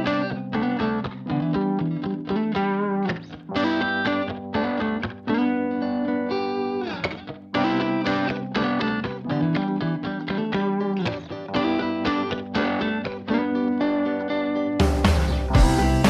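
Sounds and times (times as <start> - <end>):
guitar background music: 0.0 - 16.0.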